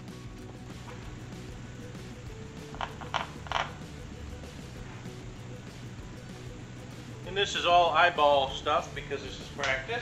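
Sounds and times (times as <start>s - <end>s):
low background music: 0.0s - 10.0s.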